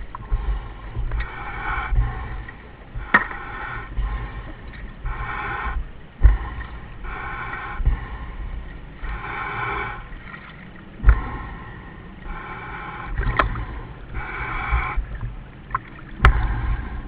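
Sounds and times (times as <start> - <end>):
diver breathing hiss: 0.0 - 15.5, 16.3 - 17.0.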